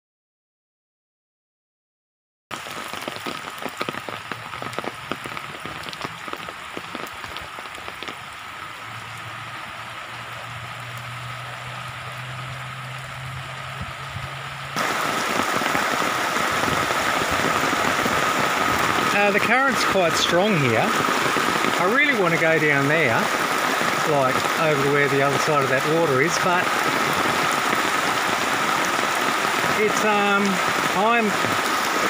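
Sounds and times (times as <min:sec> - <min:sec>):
rain drops ticking: 0:02.5 - 0:32.0
rushing floodwater: 0:02.5 - 0:32.0.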